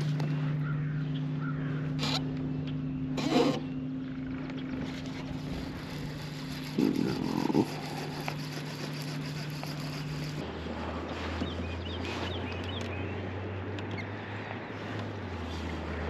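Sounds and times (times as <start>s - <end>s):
motor hum: 0.0s - 16.0s.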